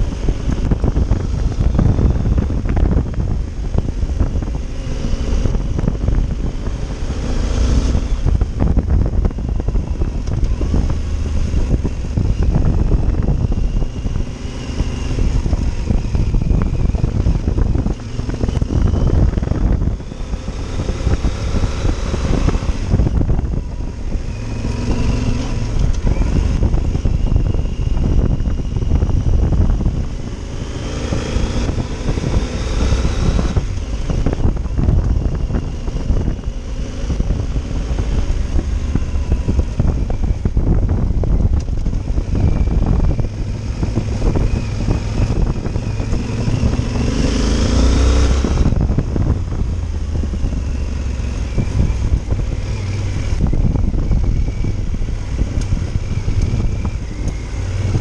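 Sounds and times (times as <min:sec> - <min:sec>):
motorcycle engine revving: 0:00.0 - 0:58.0
tyres rumbling on rough road: 0:00.0 - 0:58.0
wind buffeting microphone: 0:00.0 - 0:58.0.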